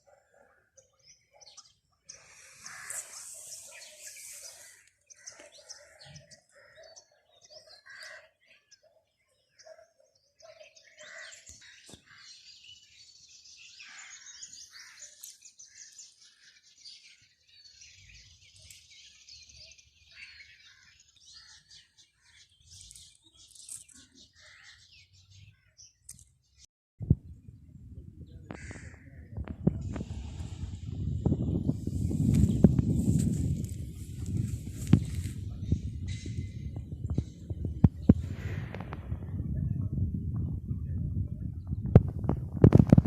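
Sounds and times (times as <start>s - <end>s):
birds chirping: 0.0s - 42.8s.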